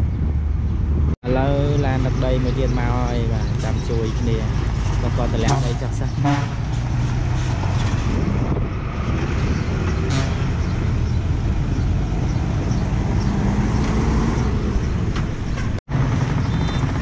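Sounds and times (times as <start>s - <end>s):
dump truck diesel engine rumbling: 0.0s - 17.0s.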